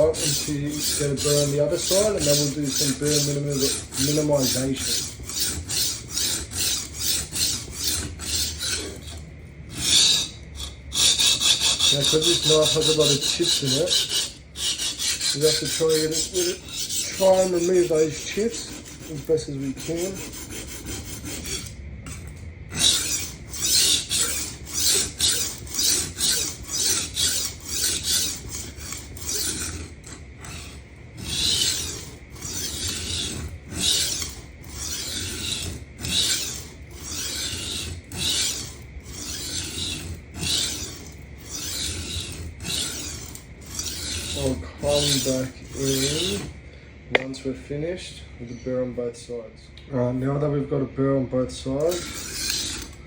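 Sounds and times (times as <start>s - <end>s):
knife scraping on sharpening plate: 0.0s - 46.2s.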